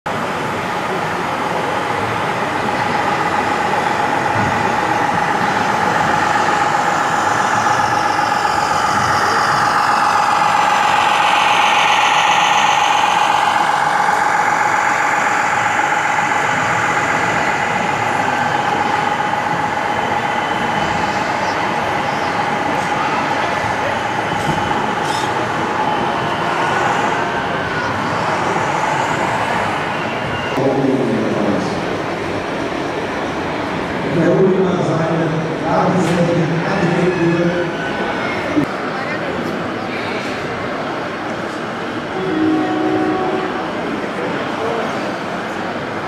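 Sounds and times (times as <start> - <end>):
model truck engine drone and whine: 0.1 - 40.6.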